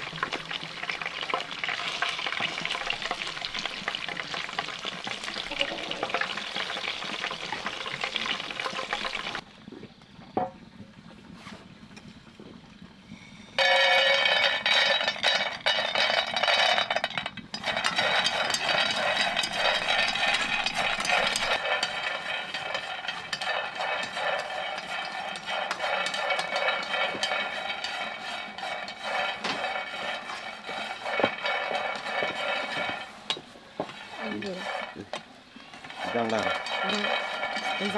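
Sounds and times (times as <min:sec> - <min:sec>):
nuts rattling in a pan: 0:00.0 - 0:09.4, 0:13.6 - 0:37.9.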